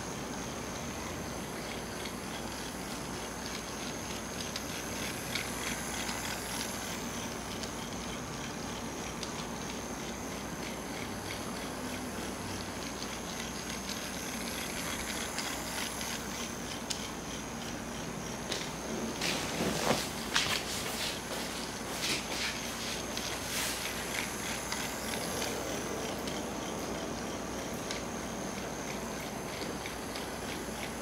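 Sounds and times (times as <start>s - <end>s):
toy train motor whirring: 0.0s - 31.0s.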